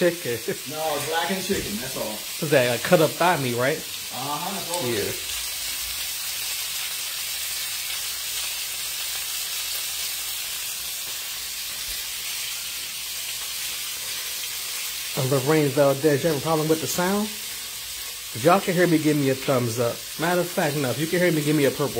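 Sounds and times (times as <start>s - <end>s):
chicken frying in oil: 0.0s - 21.9s.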